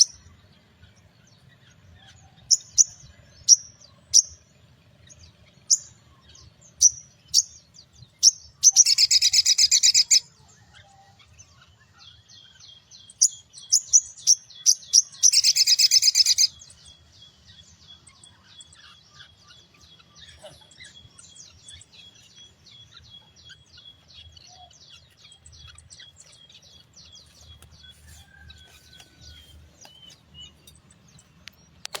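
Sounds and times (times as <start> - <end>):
songbird chirping and trilling: 0.0 - 32.0.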